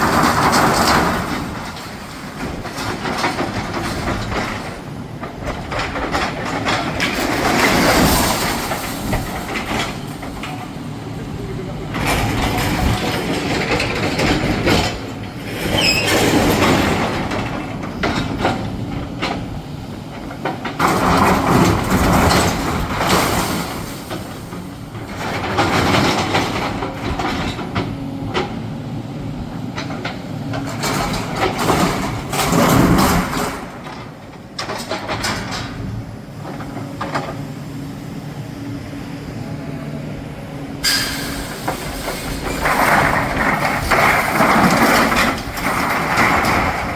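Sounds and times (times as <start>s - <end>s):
rubble crunching and clattering: 0.0s - 28.6s, 29.6s - 37.4s, 41.2s - 46.9s
excavator engine running: 0.0s - 46.9s.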